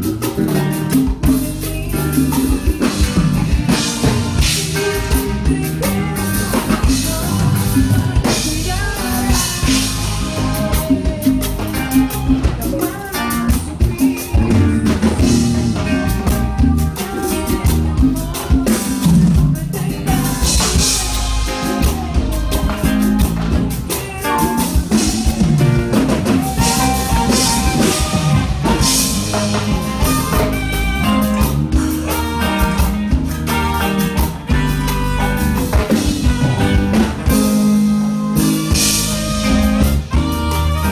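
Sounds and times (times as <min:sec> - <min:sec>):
drum kit: 0:00.0 - 0:40.9
guitar: 0:00.0 - 0:40.9.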